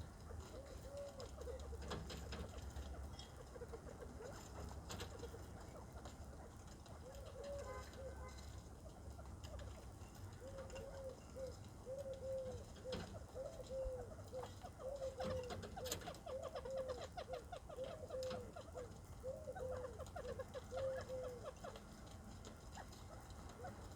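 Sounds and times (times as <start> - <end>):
quail giving low calls: 0.0 - 22.0.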